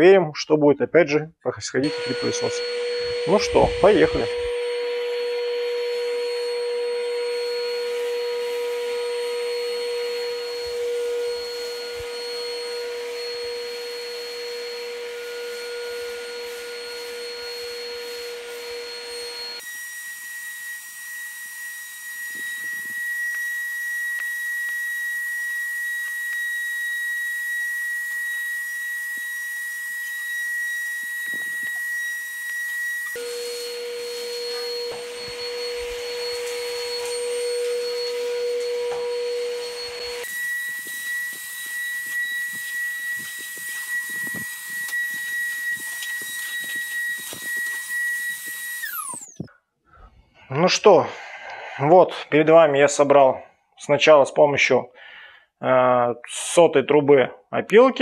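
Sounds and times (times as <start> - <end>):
vacuum motor whine: 1.8 - 49.5.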